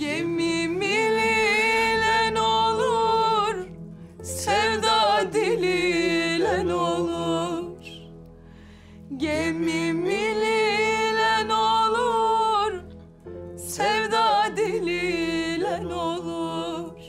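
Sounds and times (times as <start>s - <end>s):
person singing folk song: 0.0s - 8.2s, 8.9s - 13.0s, 13.6s - 17.0s.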